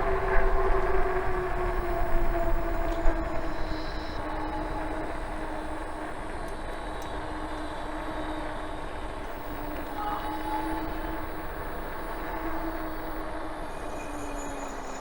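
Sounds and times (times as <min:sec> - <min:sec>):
electric bike humming: 0:00.0 - 0:13.8.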